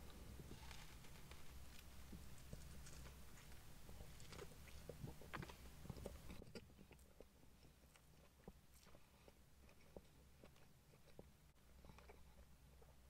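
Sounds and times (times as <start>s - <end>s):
low steady hum: 0.0s - 13.0s
chewing a burger: 0.5s - 13.0s.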